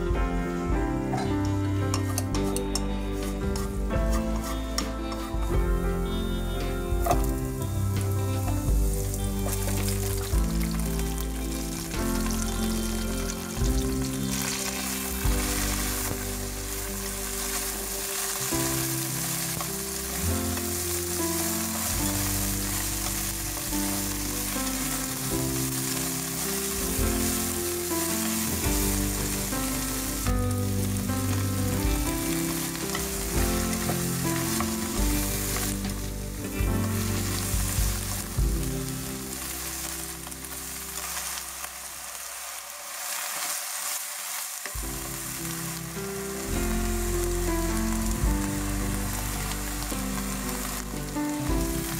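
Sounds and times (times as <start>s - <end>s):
background music: 0.0s - 51.9s
vegetables sizzling in oil: 0.0s - 51.9s.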